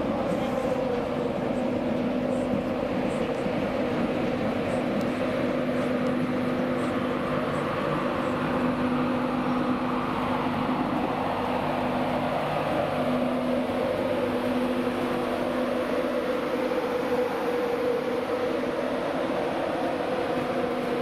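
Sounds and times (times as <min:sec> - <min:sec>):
electric locomotive hum: 0:00.0 - 0:21.0
train wheels rumbling on rail: 0:00.0 - 0:21.0.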